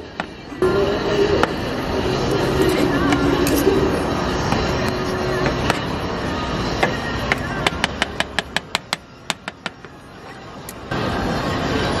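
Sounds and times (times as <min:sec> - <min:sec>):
street hubbub: 0:00.0 - 0:12.0.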